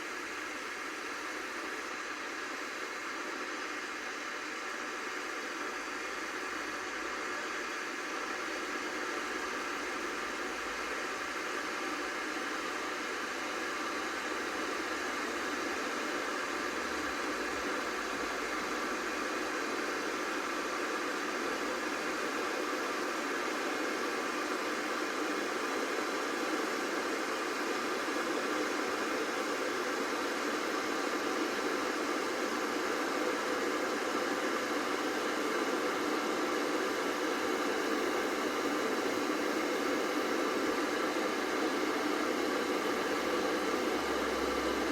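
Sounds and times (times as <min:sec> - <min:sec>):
electric kettle heating water: 0:00.0 - 0:44.9.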